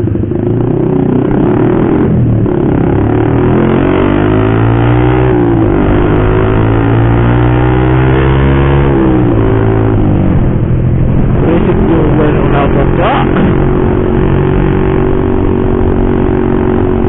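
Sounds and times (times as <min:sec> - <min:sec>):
motorcycle with loud racing exhaust: 0:00.0 - 0:17.0.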